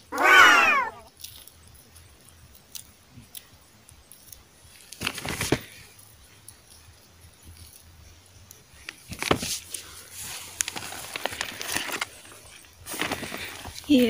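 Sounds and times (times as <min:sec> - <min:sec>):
rustling in moss and twigs: 0:00.0 - 0:14.0.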